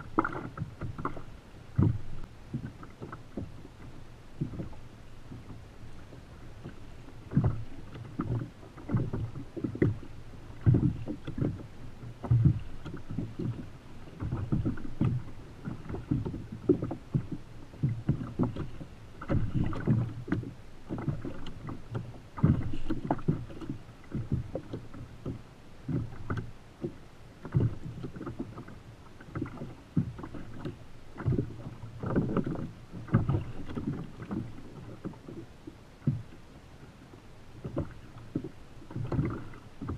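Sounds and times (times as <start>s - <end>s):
water slapping against kayak hull: 0.0s - 39.9s.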